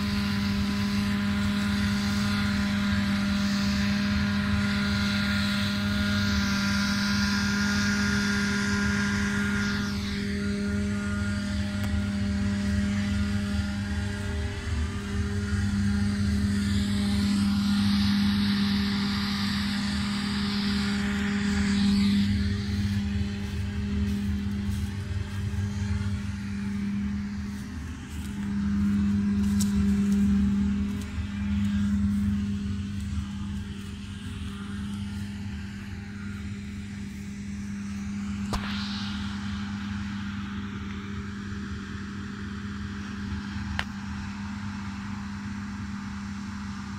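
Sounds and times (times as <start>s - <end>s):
tractor diesel engine running: 0.0s - 40.4s.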